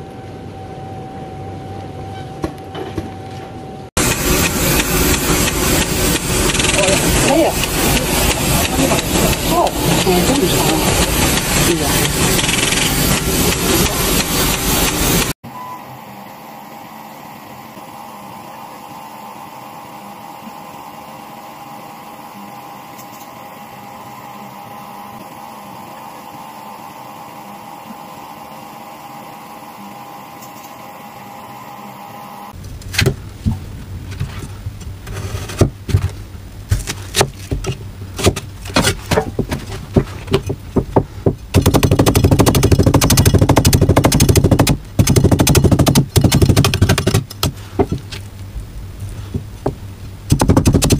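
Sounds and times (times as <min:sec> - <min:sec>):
machine hum: 0:00.0 - 0:50.9.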